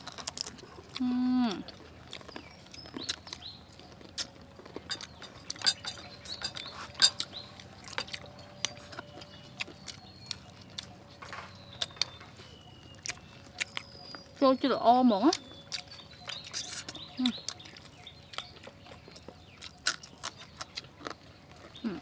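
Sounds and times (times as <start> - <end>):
people chewing crispy chicken: 0.0 - 22.0.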